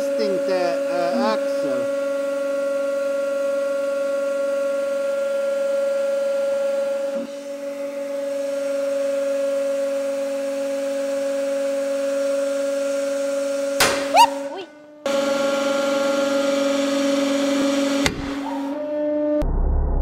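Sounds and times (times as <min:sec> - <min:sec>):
hydraulic press whine: 0:00.0 - 0:19.5.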